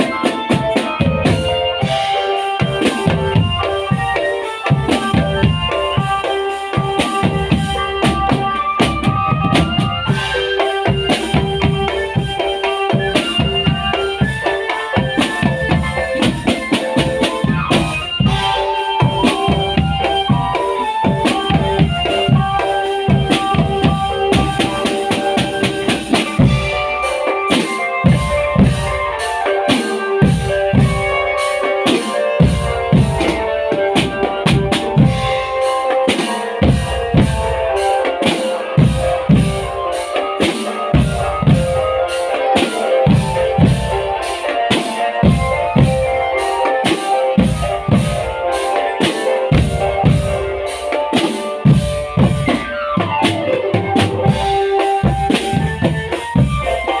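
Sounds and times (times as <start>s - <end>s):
marching drum band playing: 0.0s - 57.0s.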